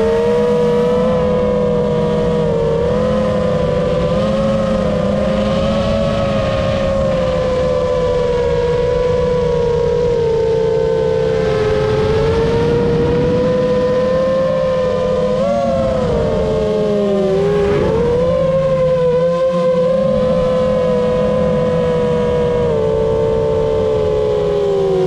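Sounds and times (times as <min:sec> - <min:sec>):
motor droning whine: 0:00.0 - 0:25.0.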